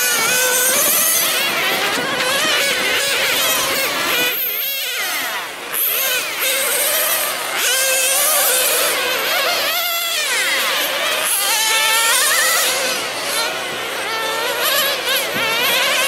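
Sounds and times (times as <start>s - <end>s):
rc car engines whining: 0.0s - 16.0s.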